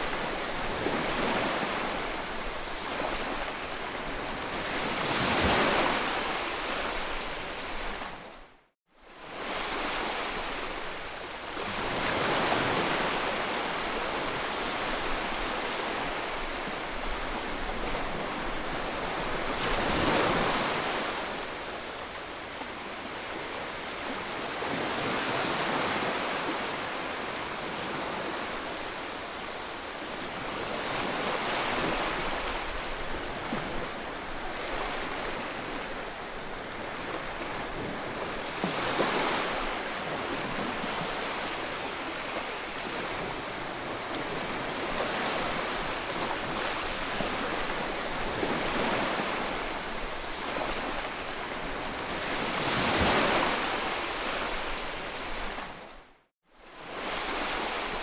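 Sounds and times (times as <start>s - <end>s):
ocean waves breaking: 9.2s - 56.0s.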